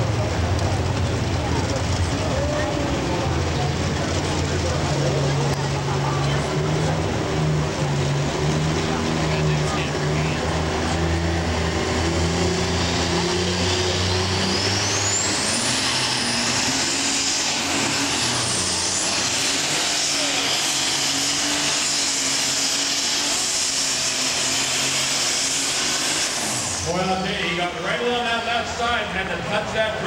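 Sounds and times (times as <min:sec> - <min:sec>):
diesel engine at full power: 0:00.0 - 0:30.0
high turbocharger whine: 0:00.0 - 0:30.0.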